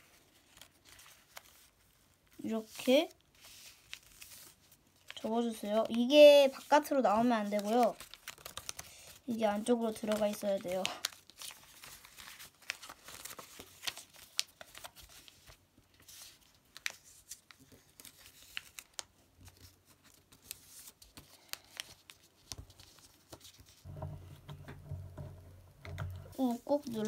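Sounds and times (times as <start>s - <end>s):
sharp paper crackles: 0.0s - 24.0s, 26.3s - 27.0s
paper folding and crinkling: 0.0s - 27.0s.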